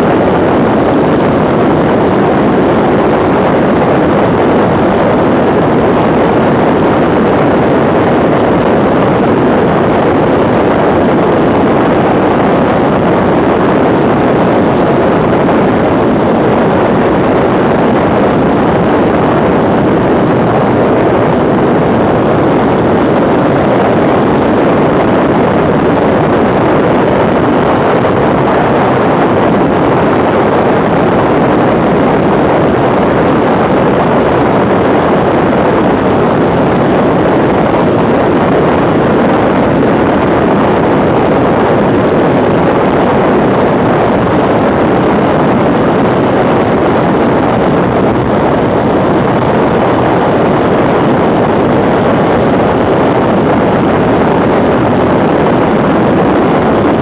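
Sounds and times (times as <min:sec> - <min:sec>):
wind rushing over camera: 0:00.0 - 0:57.0.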